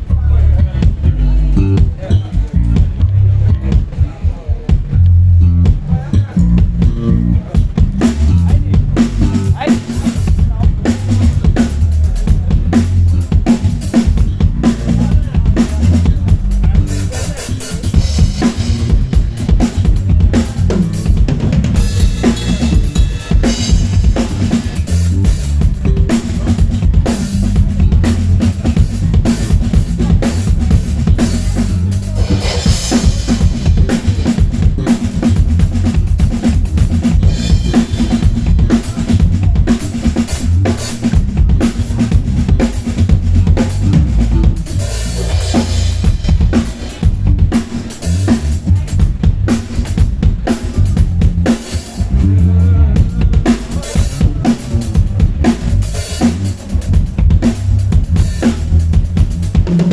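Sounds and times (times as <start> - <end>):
bass guitar: 0.0 - 59.9
drum kit played fast: 0.0 - 59.9.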